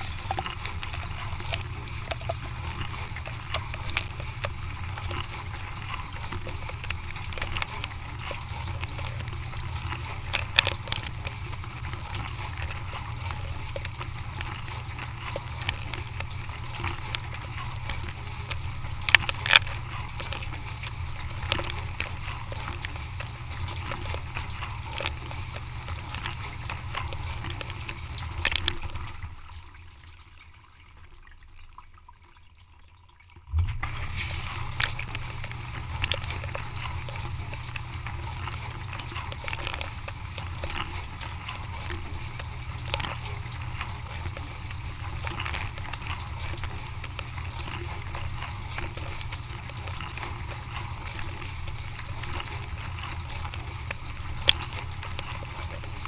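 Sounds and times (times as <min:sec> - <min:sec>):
dishwasher motor hum: 0:00.0 - 0:56.0
water splashing and trickling: 0:00.0 - 0:56.0.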